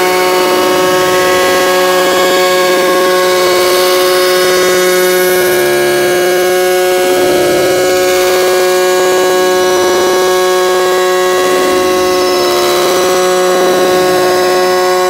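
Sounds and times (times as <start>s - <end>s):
fast shimmering pulse: 0.0s - 15.0s
loud layered drone: 0.0s - 15.0s.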